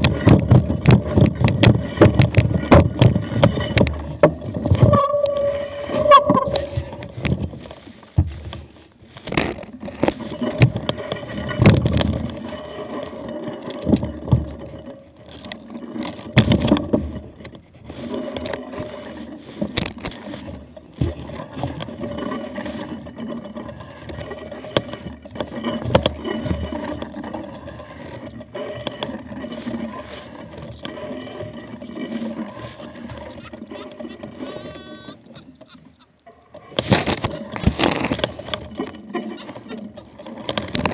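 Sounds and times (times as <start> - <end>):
bike clicks and knocks: 0.0 - 40.9.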